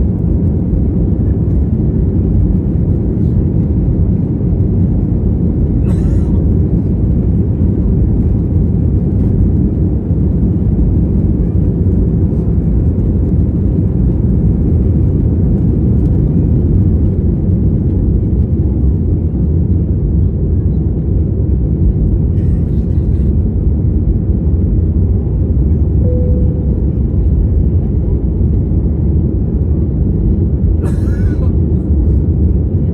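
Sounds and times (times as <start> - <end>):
aeroplane engines rumbling: 0.0 - 32.9.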